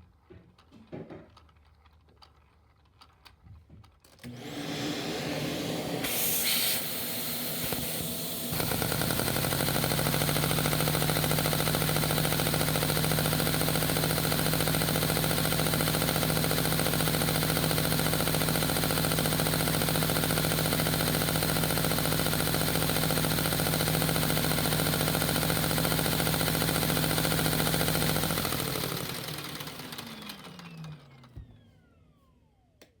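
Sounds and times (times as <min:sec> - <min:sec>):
toy vacuum engine pistons clattering: 0:00.0 - 0:04.3, 0:06.0 - 0:31.2
vacuum cleaner hum: 0:04.2 - 0:32.8.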